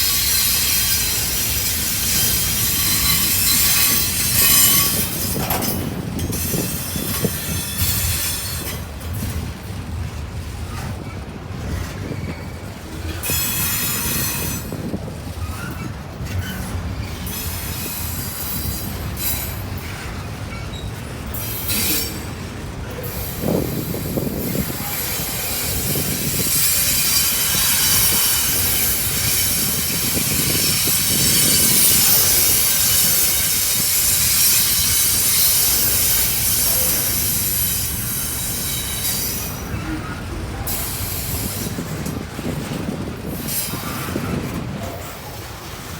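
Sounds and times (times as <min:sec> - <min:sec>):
wheels squealing against rails: 0:00.0 - 0:10.0, 0:10.6 - 0:45.9
freight train cars rolling: 0:00.0 - 0:45.9.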